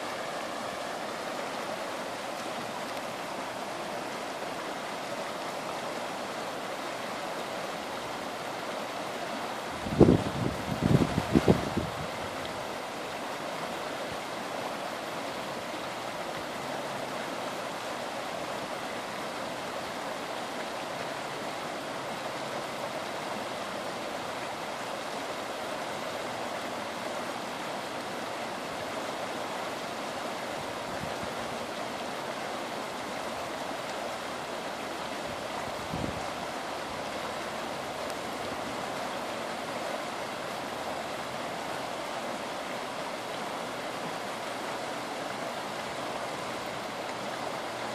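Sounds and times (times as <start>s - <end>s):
water rushing down creek: 0.0s - 47.9s.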